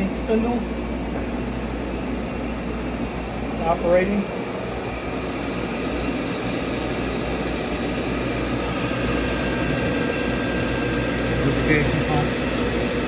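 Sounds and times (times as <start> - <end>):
grinder machine whir: 0.0 - 13.0.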